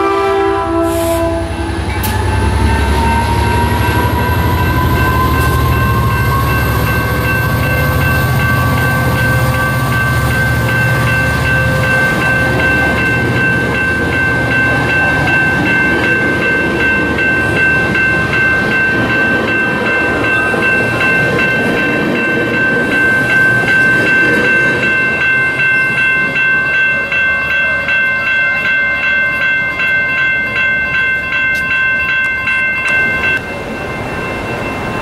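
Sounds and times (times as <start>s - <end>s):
crossing warning bell ringing: 0.0s - 35.0s
train rumbling over rails: 0.0s - 35.0s.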